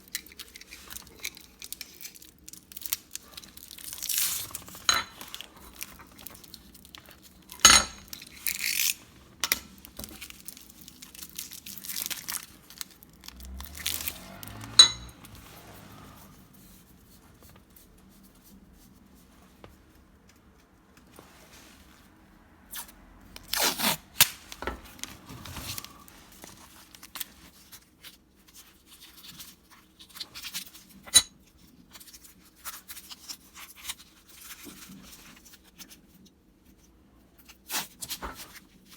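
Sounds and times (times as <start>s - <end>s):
rustling and scraping: 3.2s - 36.8s.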